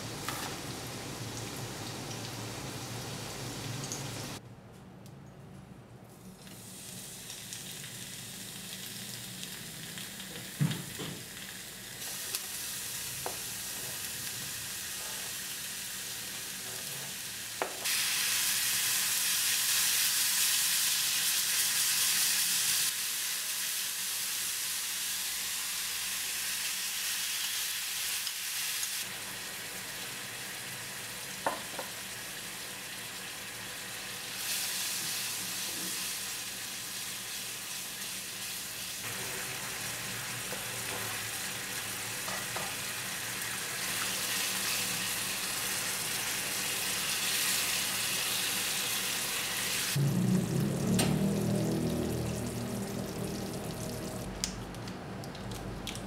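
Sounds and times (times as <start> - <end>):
food sizzling in a pan: 0.0 - 4.4, 6.2 - 54.2.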